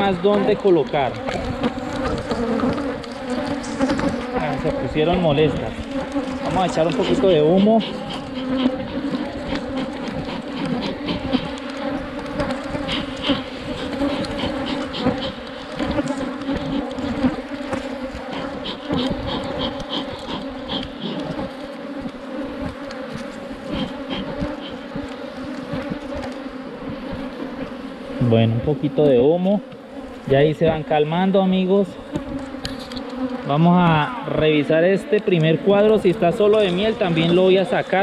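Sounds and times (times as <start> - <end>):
bees buzzing: 0.0 - 38.0.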